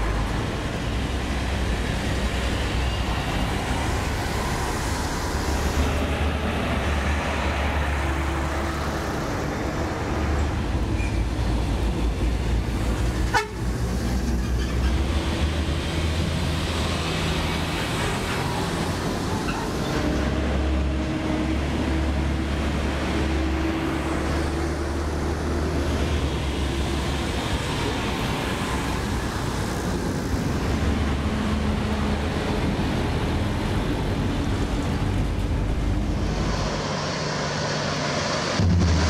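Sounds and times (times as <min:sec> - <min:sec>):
road noise: 0:00.0 - 0:39.0.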